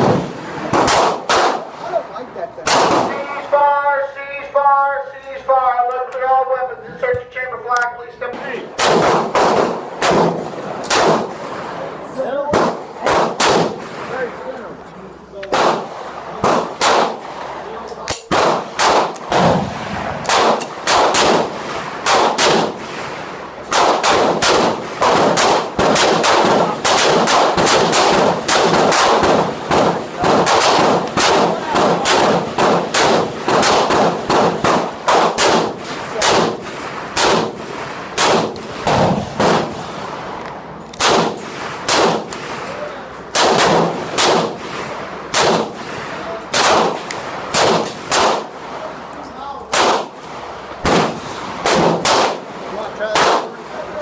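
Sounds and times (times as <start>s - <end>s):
gunshots with ringing tail: 0.0s - 1.9s, 2.6s - 3.4s, 8.3s - 14.4s, 15.5s - 40.4s, 41.0s - 48.8s, 49.7s - 53.8s.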